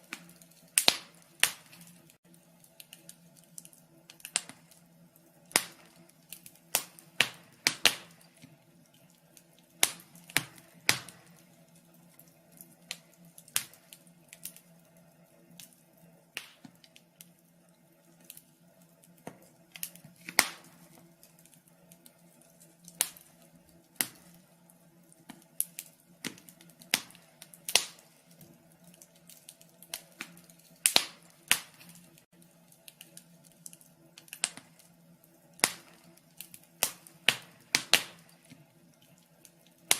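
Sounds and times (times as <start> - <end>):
fire crackling with pops: 0.0 - 39.9.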